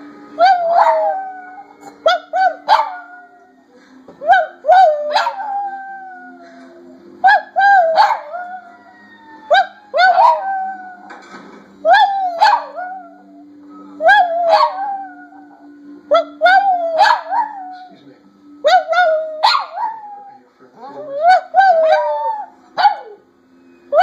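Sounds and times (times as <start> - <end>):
dog howling and yipping: 0.4 - 3.6, 4.2 - 11.2, 11.8 - 13.4, 14.0 - 17.9, 18.6 - 23.2.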